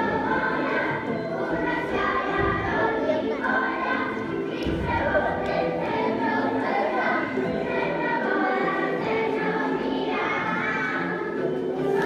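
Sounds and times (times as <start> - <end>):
choir singing with instruments: 0.0 - 12.0.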